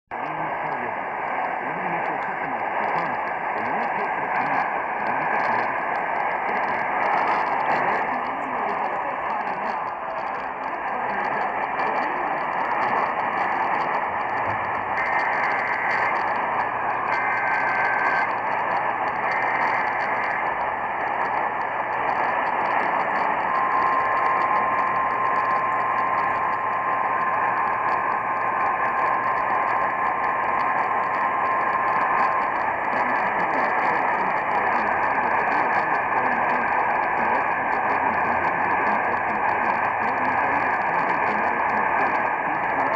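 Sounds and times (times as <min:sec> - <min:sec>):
radio static: 0:00.1 - 0:42.9
data bursts: 0:00.2 - 0:42.9.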